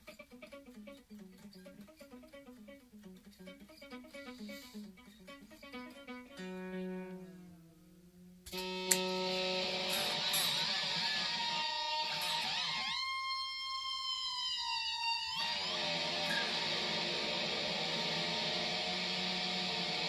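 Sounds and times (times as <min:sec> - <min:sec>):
electric guitar effect sounds: 0:00.0 - 0:07.8, 0:08.5 - 0:20.0.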